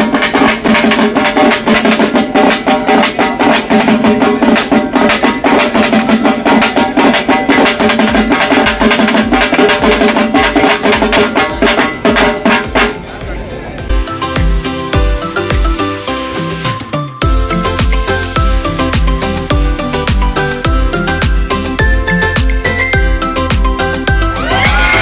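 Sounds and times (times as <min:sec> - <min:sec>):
drum beaten rapidly with stick: 0:00.0 - 0:25.0.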